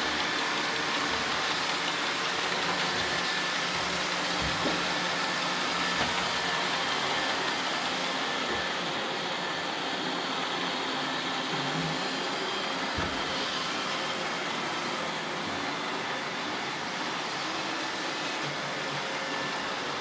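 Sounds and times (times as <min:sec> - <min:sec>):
robot vacuums whirring: 0:00.0 - 0:20.0.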